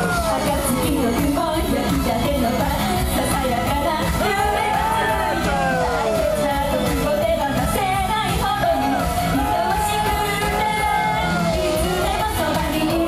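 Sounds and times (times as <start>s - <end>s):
group singing: 0.0s - 13.0s
loud pop backing track: 0.0s - 13.0s.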